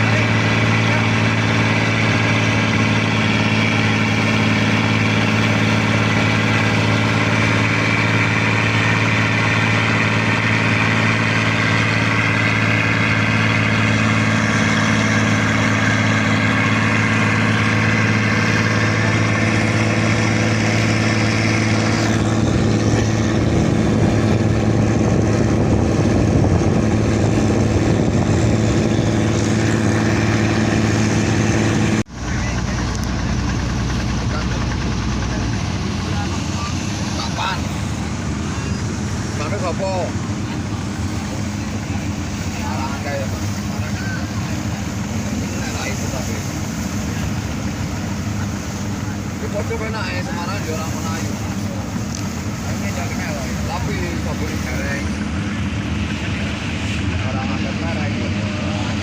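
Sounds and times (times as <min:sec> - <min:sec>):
boat diesel engine humming: 0:00.0 - 0:59.0.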